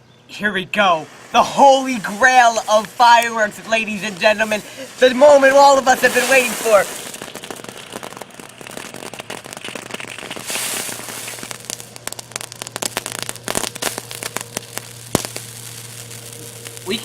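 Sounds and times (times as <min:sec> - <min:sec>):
firework hiss: 0:00.7 - 0:17.0
firework crackling pops: 0:00.8 - 0:17.0
sharp firework crack: 0:00.8 - 0:17.0.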